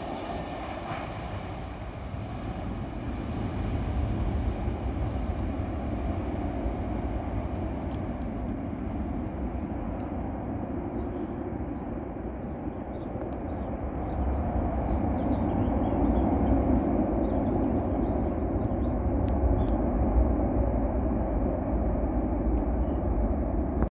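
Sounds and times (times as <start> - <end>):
distant jet engines rumbling: 0.0 - 23.9.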